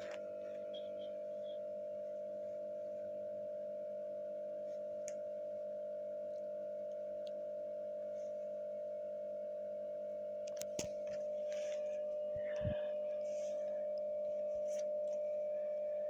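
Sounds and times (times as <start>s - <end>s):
steady humming tone: 0.0s - 16.0s.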